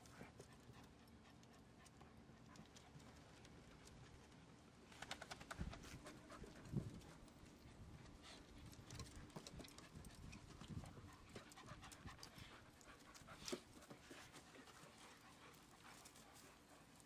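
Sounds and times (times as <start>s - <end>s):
dog panting: 0.0s - 3.4s, 5.8s - 17.0s.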